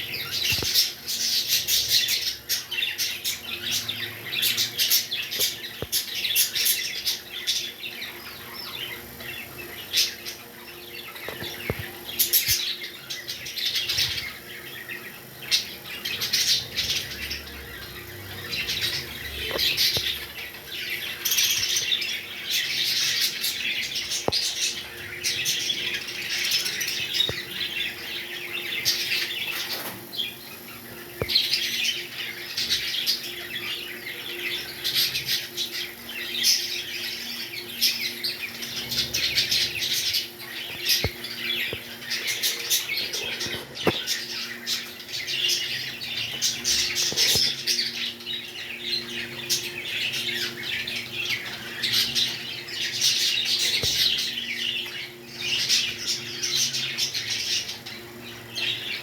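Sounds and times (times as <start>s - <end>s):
faint steady hum: 0.0s - 59.0s
small birds chattering and chirping: 0.0s - 59.0s.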